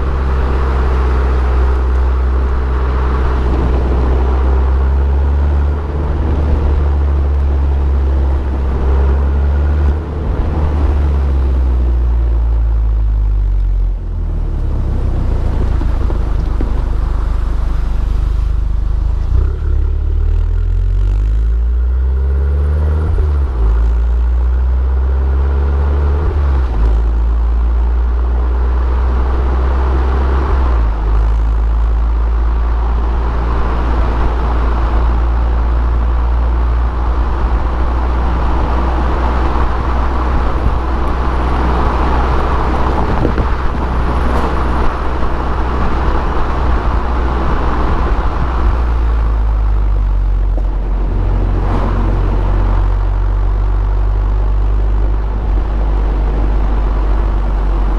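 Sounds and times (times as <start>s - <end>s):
wind noise: 0.0s - 20.0s, 22.7s - 57.9s
car engine accelerating: 0.0s - 57.9s
road noise: 0.0s - 57.9s.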